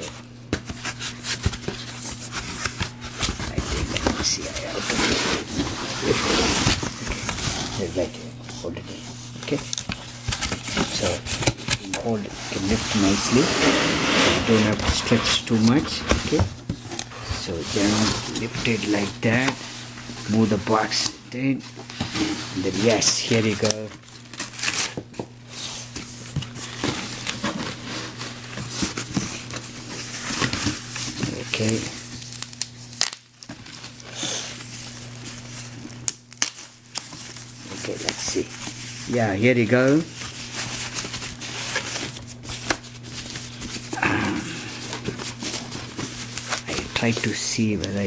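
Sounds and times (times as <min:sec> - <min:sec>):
packaging rustling: 0:00.0 - 0:48.0
steady low hum: 0:00.0 - 0:48.0.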